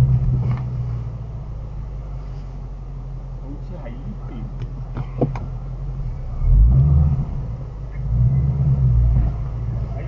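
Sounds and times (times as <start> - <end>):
car engine running at low speed: 0.0 - 10.0.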